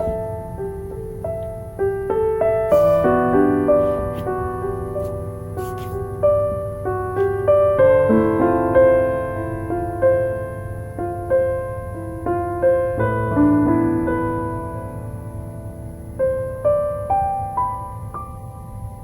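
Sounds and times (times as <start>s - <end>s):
soft slow piano music: 0.0s - 19.0s.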